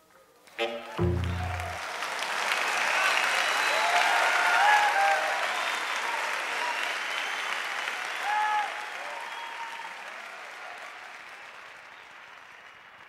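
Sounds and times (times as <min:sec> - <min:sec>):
crowd cheers and shouts: 0:00.6 - 0:11.5
audience applauding: 0:00.6 - 0:13.0.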